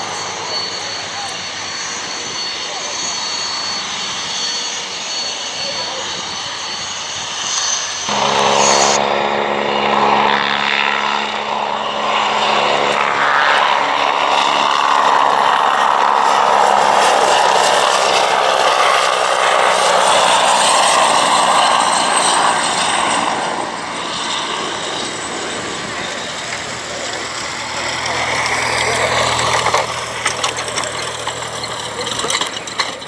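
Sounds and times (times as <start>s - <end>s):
propeller engine roar: 0.0s - 33.0s.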